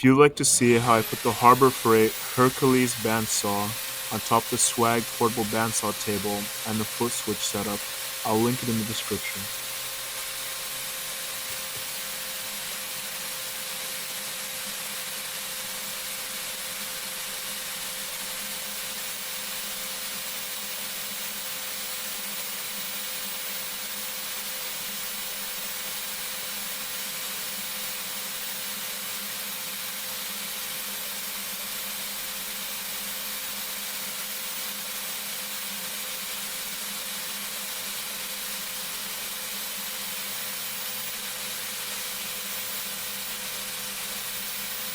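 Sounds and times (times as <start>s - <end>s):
bandsaw running: 0.2s - 44.9s.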